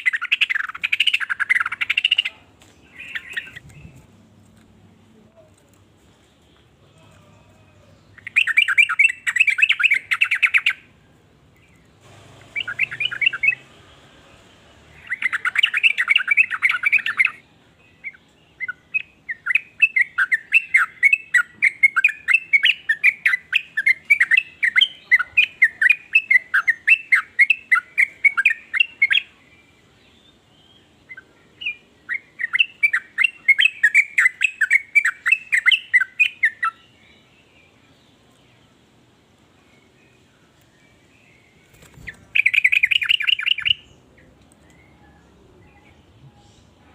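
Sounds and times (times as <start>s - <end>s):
bird chirps: 0.0s - 4.2s, 7.7s - 10.9s, 11.6s - 38.7s, 39.6s - 46.9s.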